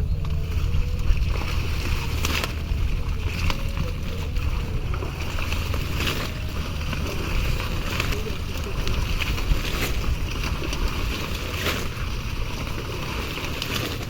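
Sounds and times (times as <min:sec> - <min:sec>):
water splashing and sloshing: 0:00.0 - 0:14.0
wind rumble on microphone: 0:00.0 - 0:14.0.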